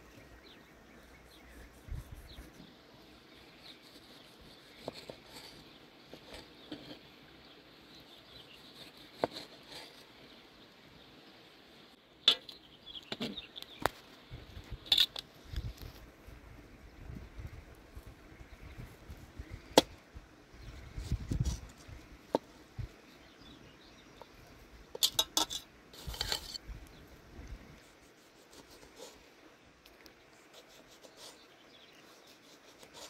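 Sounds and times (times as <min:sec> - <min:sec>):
faint outdoor hiss: 0:00.0 - 0:33.0.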